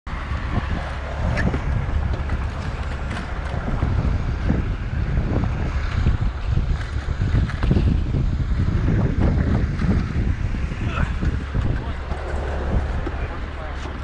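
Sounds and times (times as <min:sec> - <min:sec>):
wind buffeting microphone: 0:00.1 - 0:14.0.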